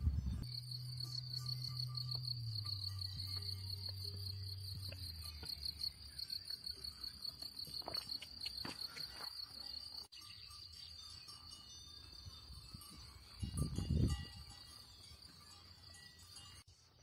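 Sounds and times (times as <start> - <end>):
crickets chirping: 0.1 - 17.0.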